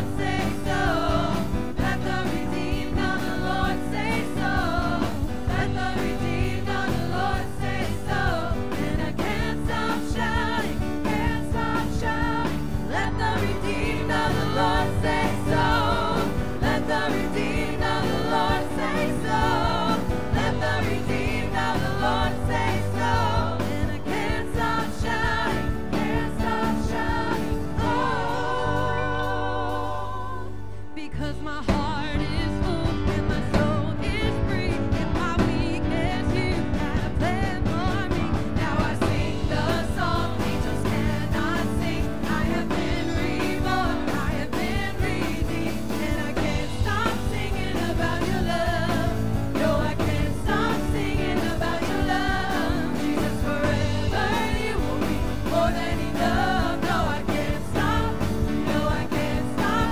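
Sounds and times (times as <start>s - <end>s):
group singing gospel song: 0.0s - 31.2s, 32.1s - 59.9s
instrumental backing: 0.0s - 59.9s.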